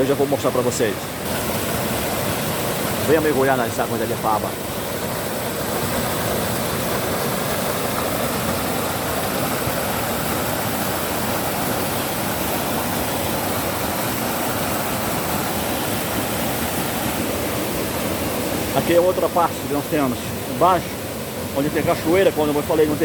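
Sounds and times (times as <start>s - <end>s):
waterfall roar: 0.0s - 23.0s.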